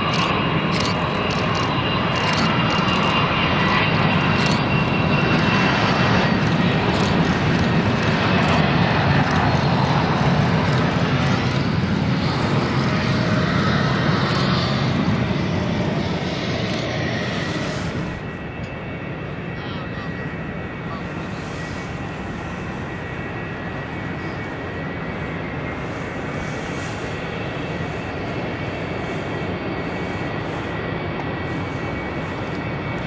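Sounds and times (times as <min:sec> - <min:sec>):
jet airliner taxiing: 0:00.0 - 0:33.0.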